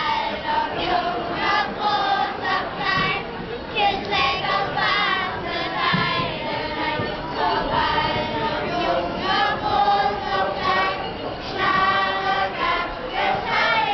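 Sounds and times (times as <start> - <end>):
children singing in a choir: 0.0 - 13.9.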